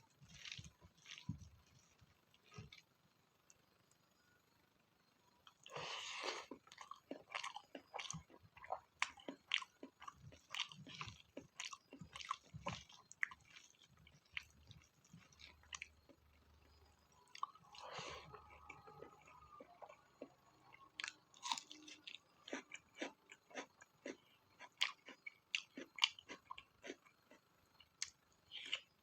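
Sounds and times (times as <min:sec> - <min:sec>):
chewing with clicks and smacks: 0:00.0 - 0:03.6, 0:05.4 - 0:29.0.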